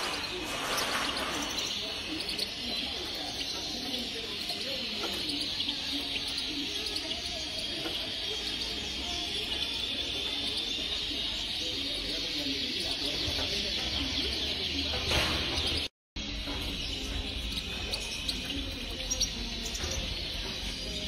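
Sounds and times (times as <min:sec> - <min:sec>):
finches chirping and twittering: 0:00.0 - 0:21.0.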